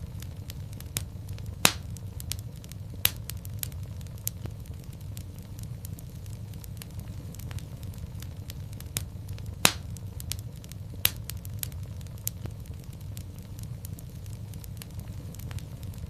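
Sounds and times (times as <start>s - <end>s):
loud fire pops: 0.0s - 16.0s
low rumble of flames: 0.0s - 16.0s
wood fire crackling: 0.0s - 16.0s.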